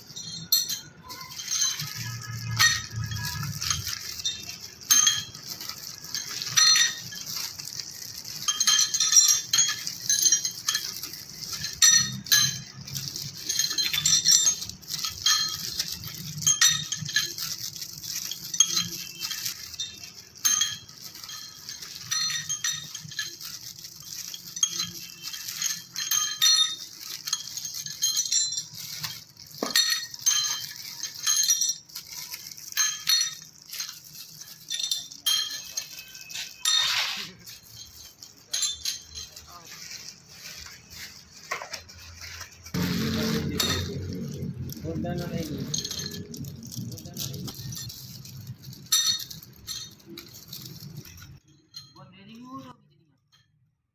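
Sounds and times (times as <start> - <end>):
metal parts clinking: 0.0 - 52.6.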